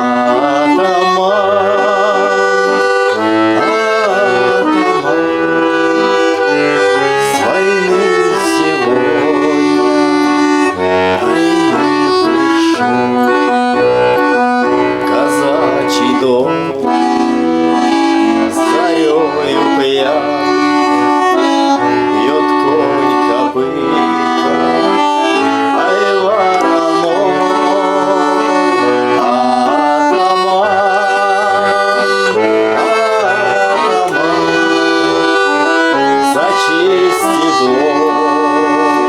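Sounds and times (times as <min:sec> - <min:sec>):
accordion folk melody: 0:00.0 - 0:39.0.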